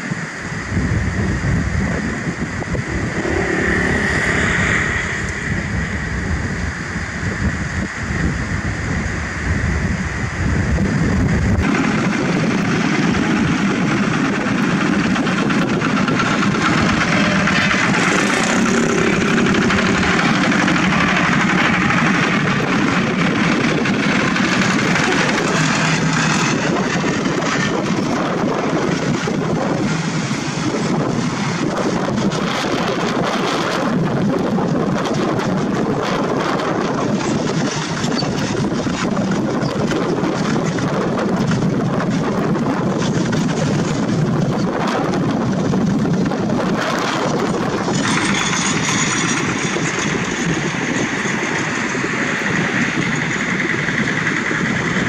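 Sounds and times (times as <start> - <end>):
diesel engines running together: 0.0 - 55.0.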